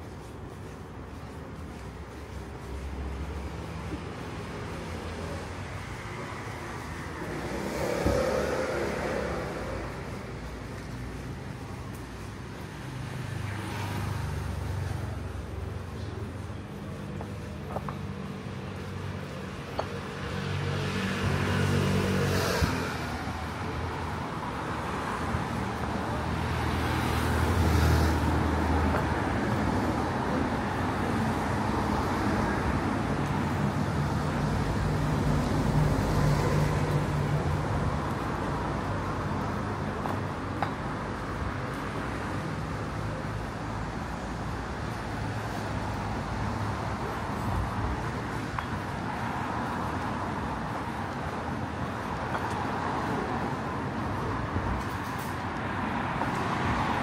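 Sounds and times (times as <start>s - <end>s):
city street traffic: 0.0s - 57.0s.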